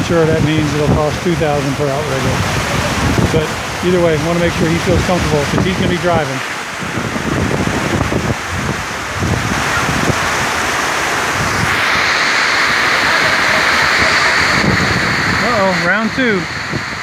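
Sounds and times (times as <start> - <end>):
heavy rain hissing: 0.0 - 17.0
wind buffeting microphone: 0.0 - 17.0.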